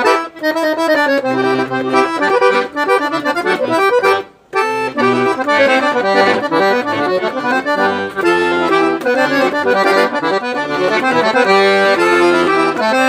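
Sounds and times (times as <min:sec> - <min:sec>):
accordion playing folk tune: 0:00.0 - 0:13.0.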